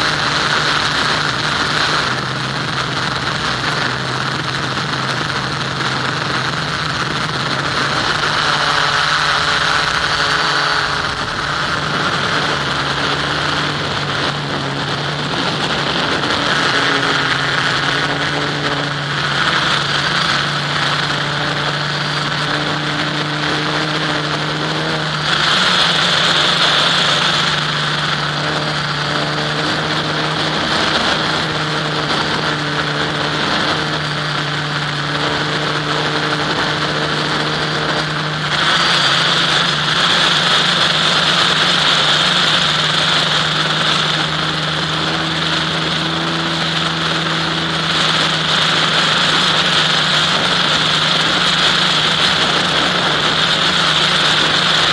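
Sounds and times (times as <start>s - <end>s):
model aircraft motor drone: 0.0s - 54.9s.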